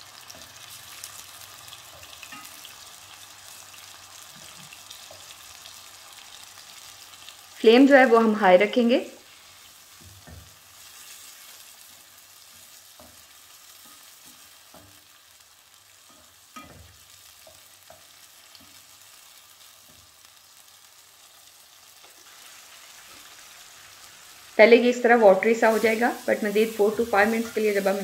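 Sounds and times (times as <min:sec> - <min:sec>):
chicken sizzling in hot oil: 0:00.0 - 0:28.0.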